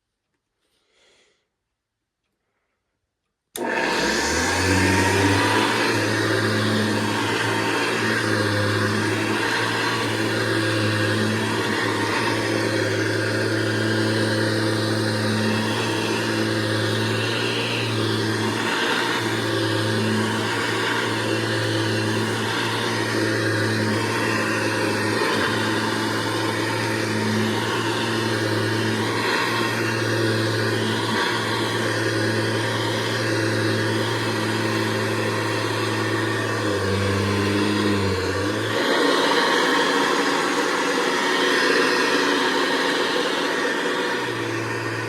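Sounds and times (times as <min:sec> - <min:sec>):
upright vacuum cleaner running: 0:03.6 - 0:45.0.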